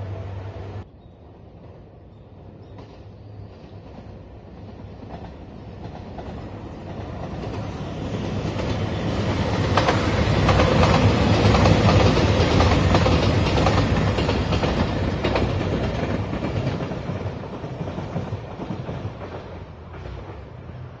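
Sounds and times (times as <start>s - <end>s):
train passing at speed: 0.0s - 21.0s
wheels clicking over rail joints: 3.8s - 20.6s.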